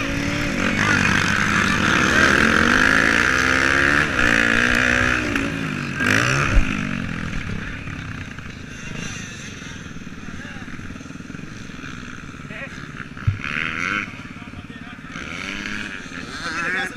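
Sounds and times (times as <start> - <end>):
motorcycle engines revving: 0.0 - 16.9.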